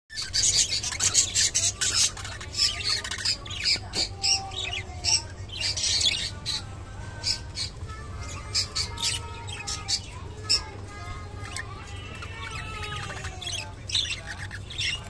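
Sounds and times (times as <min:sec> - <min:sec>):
budgerigars squawking: 0:00.1 - 0:10.8, 0:11.4 - 0:15.0.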